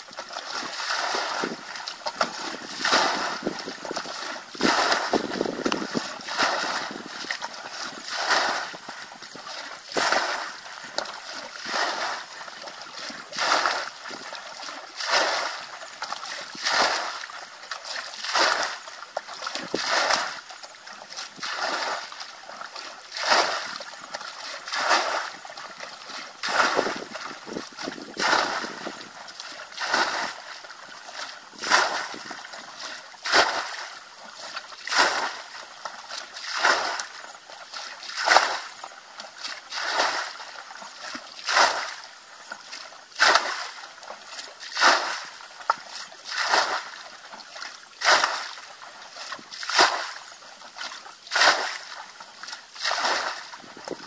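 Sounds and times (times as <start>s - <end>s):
bucket scooping water: 0.0s - 54.0s.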